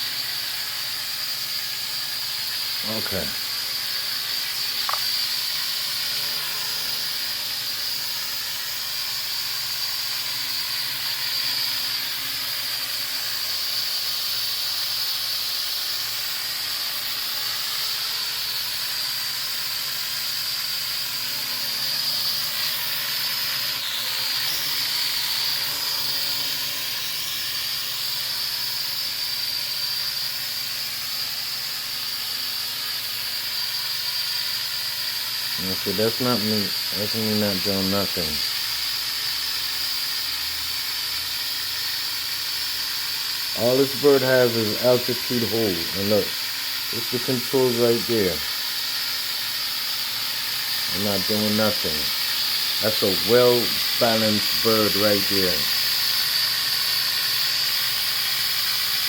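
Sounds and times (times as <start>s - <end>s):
toy drone whining: 0.0s - 59.0s.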